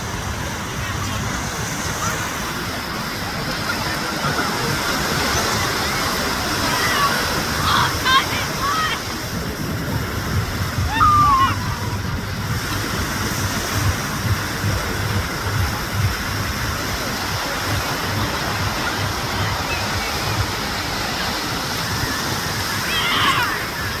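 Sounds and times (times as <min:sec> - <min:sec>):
rushing water: 0:00.0 - 0:24.0
wind buffeting microphone: 0:00.0 - 0:24.0.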